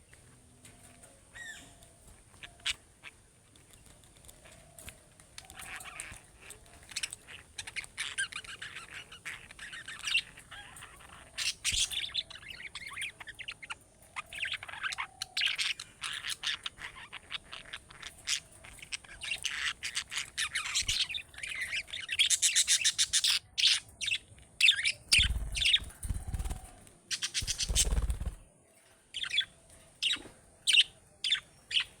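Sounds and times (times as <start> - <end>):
budgerigars chattering and chirping: 5.4 - 28.4, 29.2 - 32.0.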